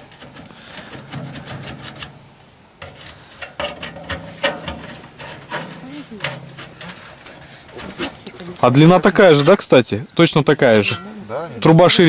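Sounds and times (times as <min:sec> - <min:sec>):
rubbing: 0:00.0 - 0:09.7.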